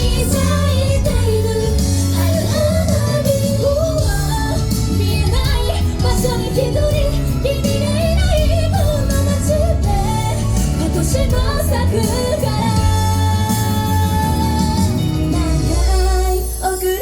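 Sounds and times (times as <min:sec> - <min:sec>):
pop beat and bass: 0:00.0 - 0:17.0
women singing: 0:00.0 - 0:17.0.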